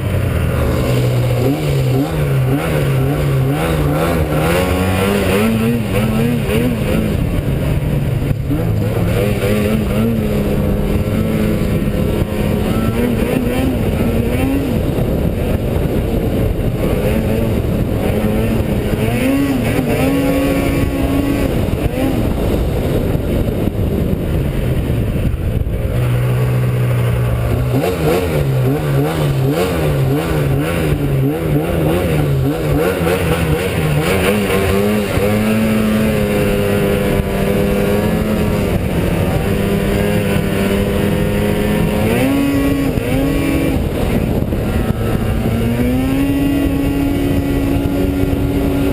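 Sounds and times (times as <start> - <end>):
snowmobile engine running: 0.0 - 48.9
steady rushing noise: 0.0 - 48.9.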